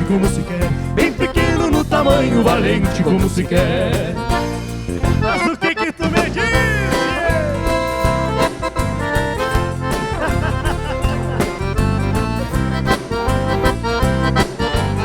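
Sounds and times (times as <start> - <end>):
accordion: 0.0 - 15.0
bass line: 0.0 - 15.0
rhythm accompaniment: 0.0 - 15.0.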